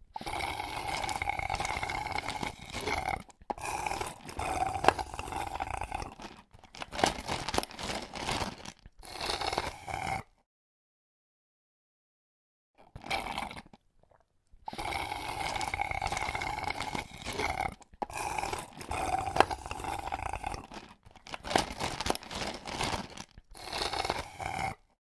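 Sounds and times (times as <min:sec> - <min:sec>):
slurping through a straw: 0:00.0 - 0:10.4, 0:12.8 - 0:25.0.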